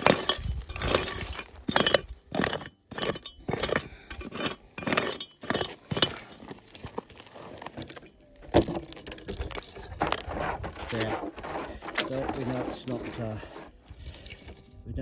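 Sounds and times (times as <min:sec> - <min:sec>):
pick striking stony ground: 0:00.0 - 0:14.6.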